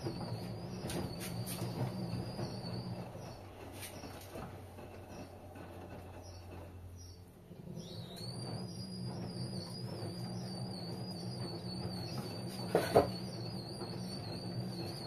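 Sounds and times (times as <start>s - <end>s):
washing machine high whine: 0.0s - 15.0s
washing machine motor humming: 0.0s - 15.0s.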